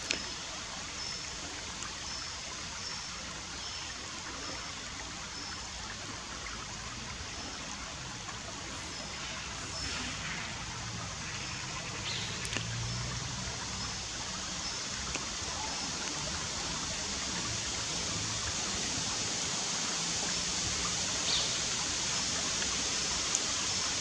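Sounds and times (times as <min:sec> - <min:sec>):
river water over stones: 0:00.0 - 0:24.0.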